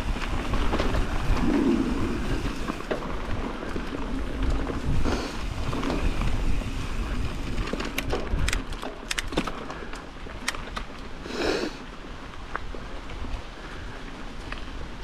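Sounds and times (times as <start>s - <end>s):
bike clicks and rattles: 0.0s - 11.2s, 12.2s - 15.0s
bike tyres on dirt: 0.0s - 15.0s
wind rumbling on microphone: 0.0s - 15.0s.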